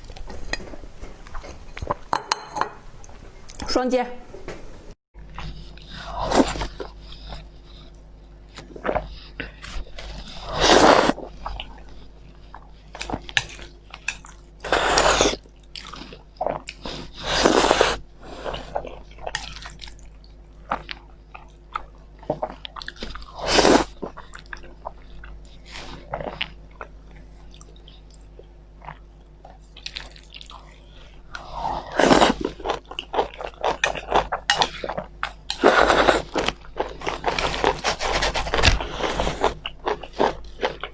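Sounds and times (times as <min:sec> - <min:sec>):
person chewing food: 0:05.2 - 0:40.9.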